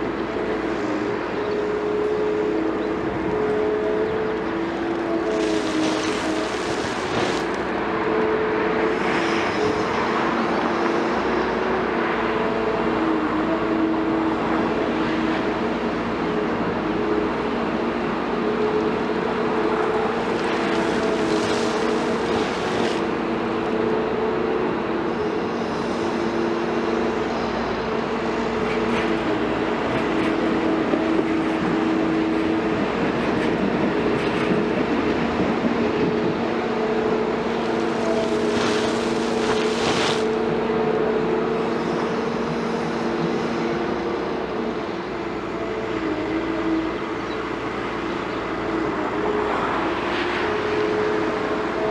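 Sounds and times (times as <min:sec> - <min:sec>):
excavator diesel engine drone: 0:00.0 - 0:51.9.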